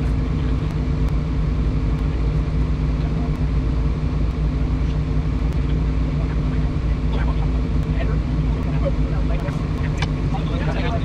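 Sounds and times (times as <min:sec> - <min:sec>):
excavator diesel engine idling: 0:00.0 - 0:11.0.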